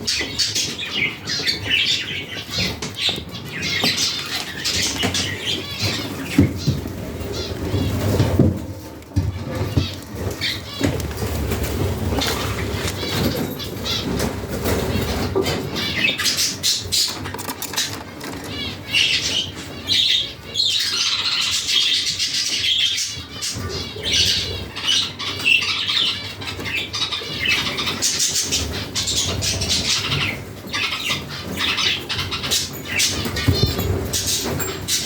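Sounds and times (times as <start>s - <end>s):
budgerigars chirping: 0.0s - 8.5s, 9.4s - 35.0s.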